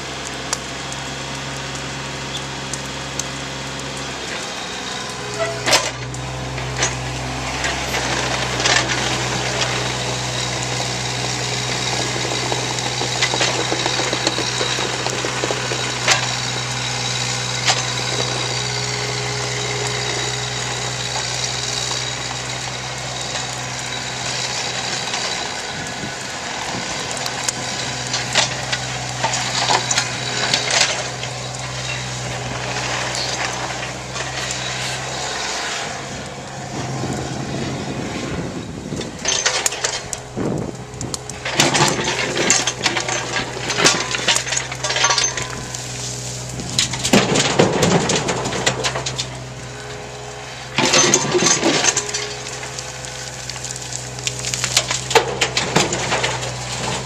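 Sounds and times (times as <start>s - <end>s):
excavator diesel engine running: 0.0s - 57.0s
clanks of steel and rock: 5.1s - 36.4s, 38.9s - 57.0s.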